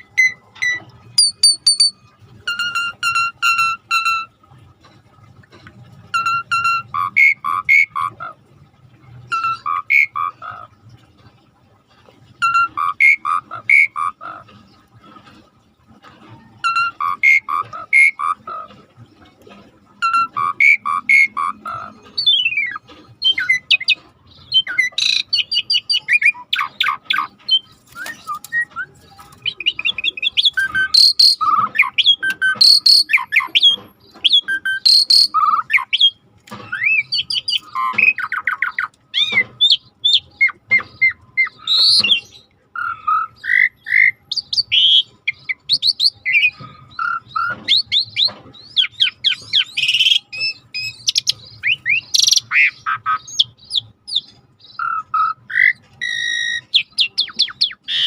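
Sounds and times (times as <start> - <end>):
starling singing: 0.0 - 4.4, 6.1 - 8.4, 9.3 - 10.8, 12.4 - 14.9, 16.5 - 18.7, 20.0 - 58.0.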